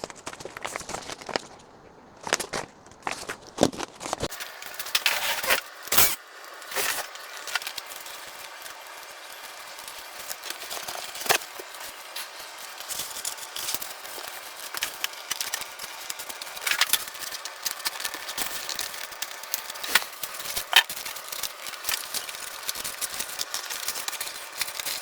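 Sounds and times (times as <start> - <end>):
steady hiss: 4.3 - 25.0.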